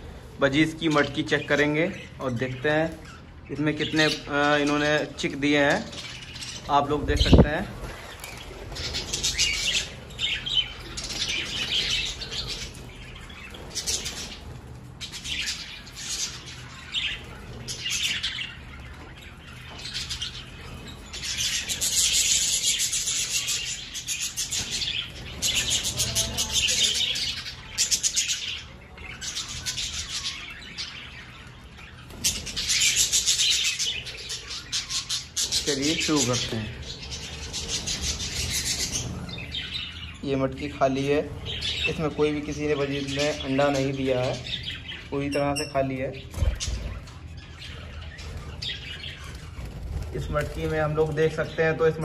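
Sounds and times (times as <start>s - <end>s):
budgerigars chattering and chirping: 0.0s - 52.0s.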